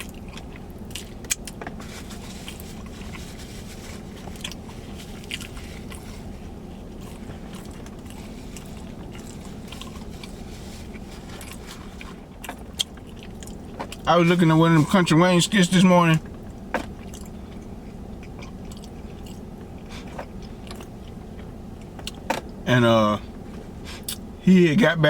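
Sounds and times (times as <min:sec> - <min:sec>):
person chewing food: 0:00.0 - 0:14.1, 0:16.2 - 0:22.6
low hum: 0:00.0 - 0:25.0.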